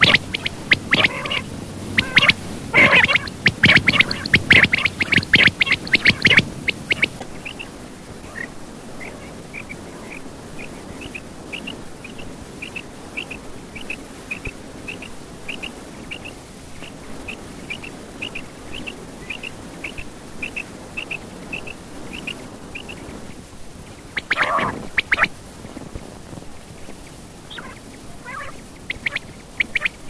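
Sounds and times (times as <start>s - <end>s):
quail chirping: 0.0s - 23.2s, 23.9s - 25.3s, 27.5s - 30.0s.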